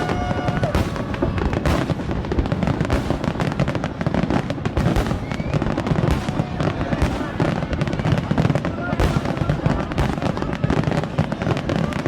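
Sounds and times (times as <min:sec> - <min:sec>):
fireworks booming and crackling: 0:00.0 - 0:12.0.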